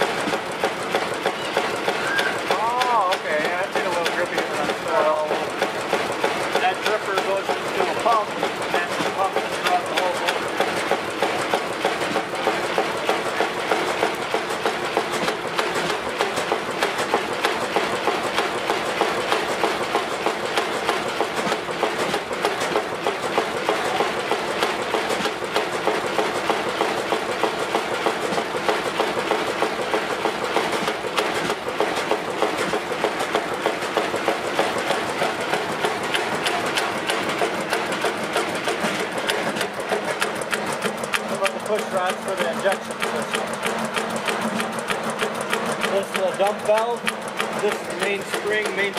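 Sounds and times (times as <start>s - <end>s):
stationary engine clattering: 0.0s - 48.9s.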